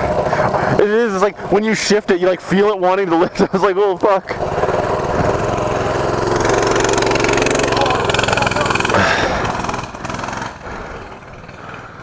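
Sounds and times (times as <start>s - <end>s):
mini bike engine revving: 0.0s - 1.9s, 4.2s - 12.0s.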